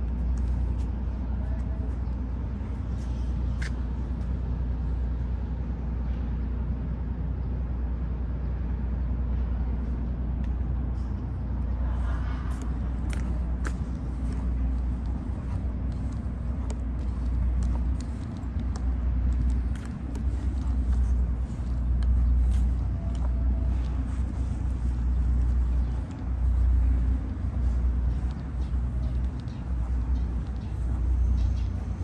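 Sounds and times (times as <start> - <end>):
motor vehicle rumble: 0.0 - 32.0.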